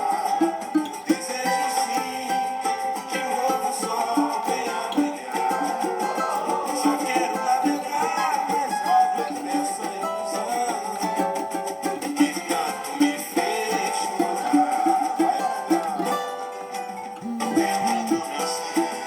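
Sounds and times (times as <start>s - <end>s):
cavaquinho plucked melody: 0.0s - 19.0s
shaker-like percussion: 0.0s - 19.0s.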